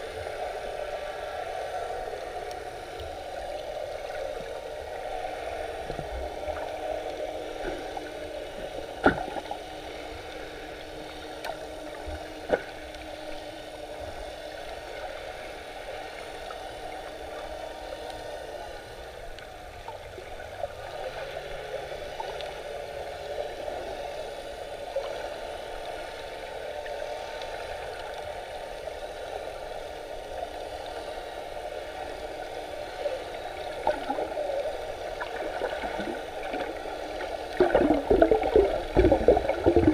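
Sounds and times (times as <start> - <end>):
muffled underwater noise: 0.0 - 39.9.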